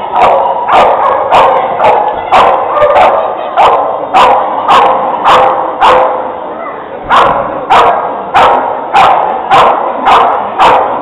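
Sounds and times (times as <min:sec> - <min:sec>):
dog barking in echoing hall: 0:00.0 - 0:06.4, 0:07.0 - 0:11.0.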